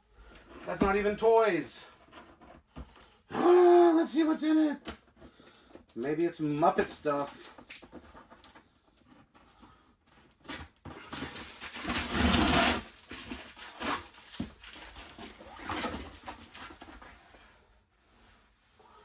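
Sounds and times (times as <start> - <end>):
rustling and scraping in box: 0.0 - 2.7, 5.0 - 19.0.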